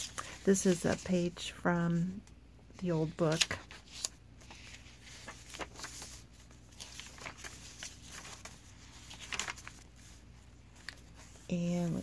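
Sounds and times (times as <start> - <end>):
paper pages rustling: 0.0 - 1.3, 2.8 - 12.0.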